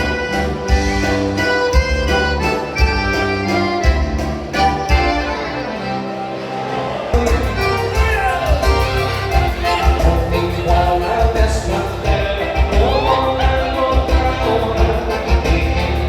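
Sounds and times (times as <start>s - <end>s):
music with steady beat and bass: 0.0s - 5.9s, 7.2s - 16.0s.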